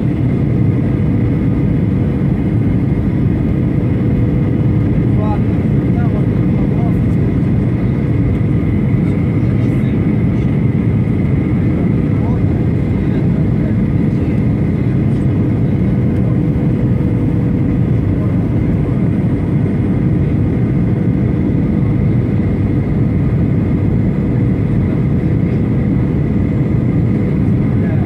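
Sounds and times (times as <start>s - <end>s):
jet engine rumble in cabin: 0.0s - 28.0s.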